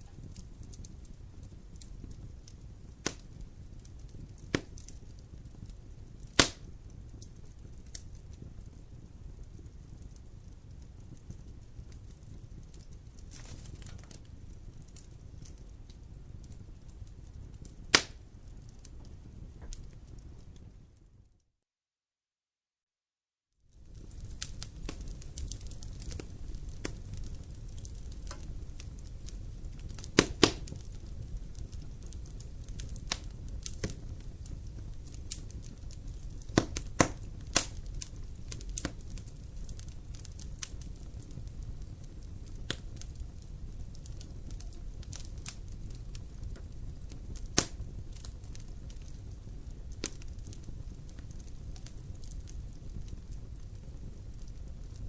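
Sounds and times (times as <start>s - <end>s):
sharp fire pops: 0.0s - 20.8s, 23.8s - 55.0s
low rumble of flames: 0.0s - 21.4s, 23.6s - 55.0s
faint fire crackling: 0.0s - 21.5s, 23.5s - 55.0s.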